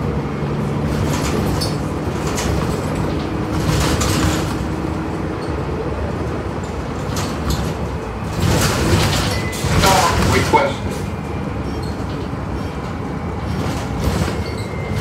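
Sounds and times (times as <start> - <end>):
bus body rattling: 0.0 - 15.0
bus engine and road rumble: 0.0 - 15.0.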